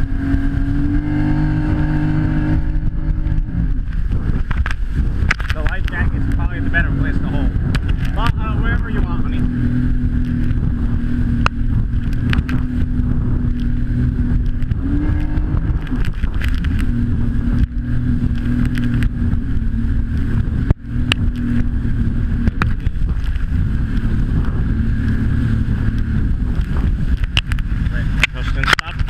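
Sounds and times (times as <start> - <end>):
jet ski engine running: 0.0 - 29.0.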